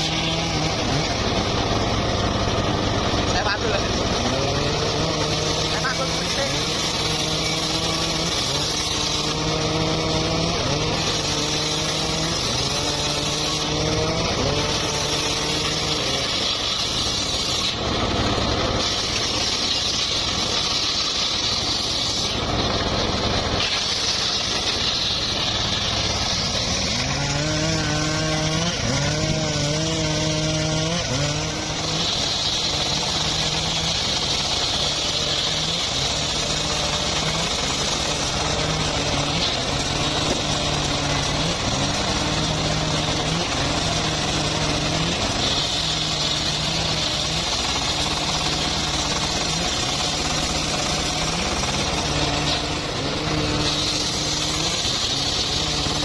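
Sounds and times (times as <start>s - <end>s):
engine saw cutting wood: 0.0s - 56.0s.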